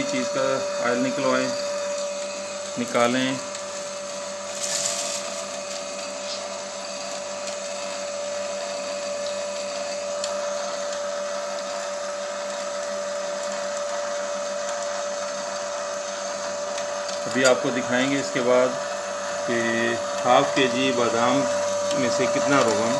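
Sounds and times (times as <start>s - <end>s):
electric oil press whining: 0.0s - 22.9s.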